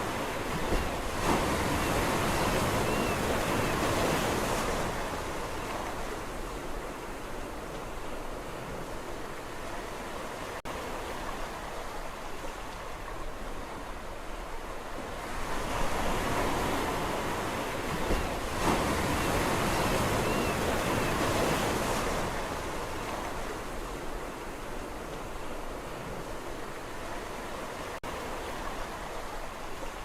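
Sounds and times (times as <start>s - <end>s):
sea waves washing on shore: 0.0s - 30.0s.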